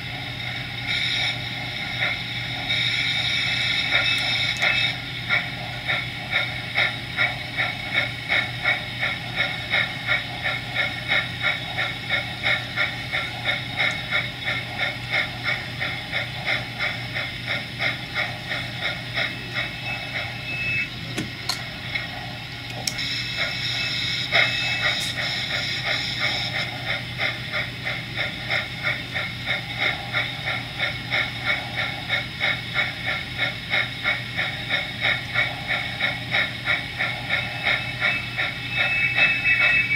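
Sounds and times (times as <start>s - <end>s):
steam hiss: 0.0s - 20.8s, 22.9s - 39.9s
model steam locomotive chuffing: 0.0s - 39.9s.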